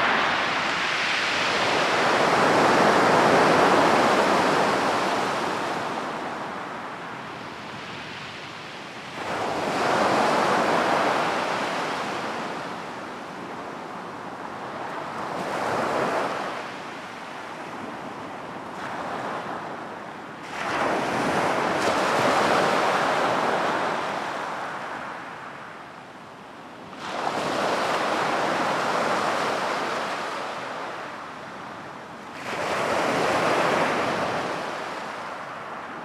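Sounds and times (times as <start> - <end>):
surf rushing on beach: 0.0 - 17.1, 20.4 - 25.6, 26.9 - 36.0.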